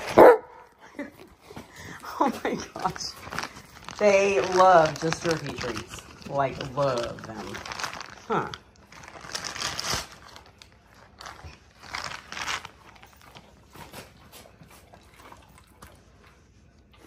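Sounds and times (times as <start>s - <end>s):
dog chewing treat: 1.4s - 17.0s.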